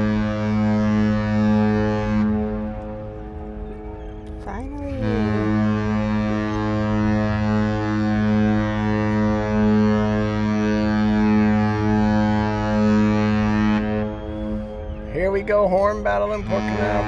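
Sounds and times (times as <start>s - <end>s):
ship horn deep blast: 0.0s - 17.0s.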